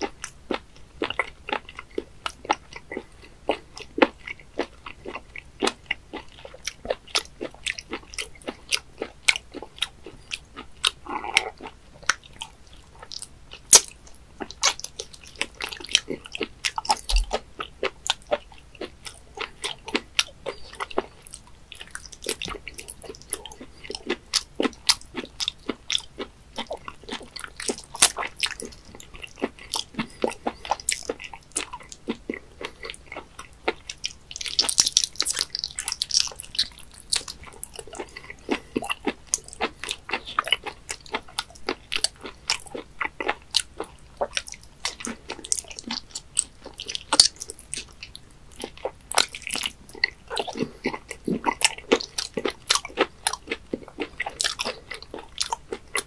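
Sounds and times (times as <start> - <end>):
wet chewing mouth clicks: 0.0 - 56.0.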